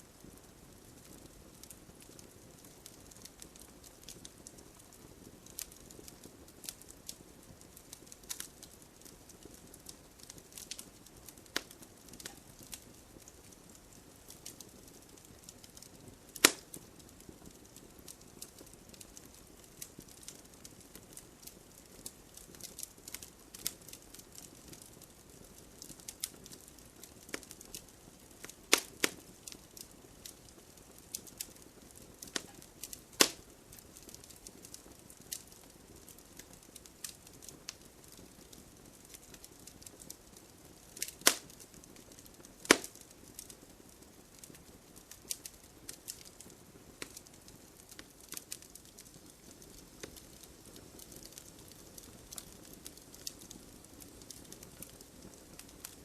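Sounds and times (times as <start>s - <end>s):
campfire crackling and popping: 0.0s - 56.0s
low hiss of fire: 0.0s - 56.0s.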